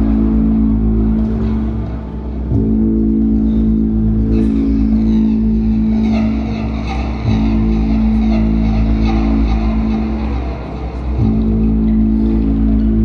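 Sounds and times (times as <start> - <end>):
synthesizer drone over deep bass: 0.0 - 13.0.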